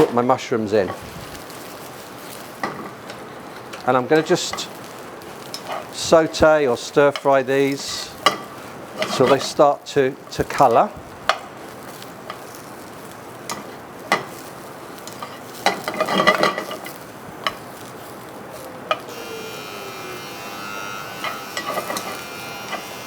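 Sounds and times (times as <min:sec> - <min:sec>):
mushrooms sizzling in hot oil: 0:01.0 - 0:09.6, 0:10.2 - 0:23.0.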